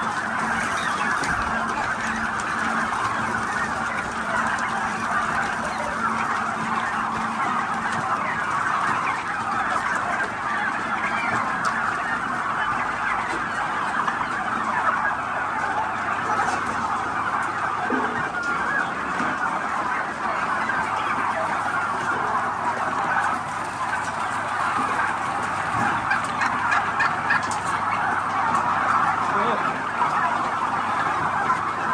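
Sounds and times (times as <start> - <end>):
flock of turkeys calling: 0.0 - 31.9.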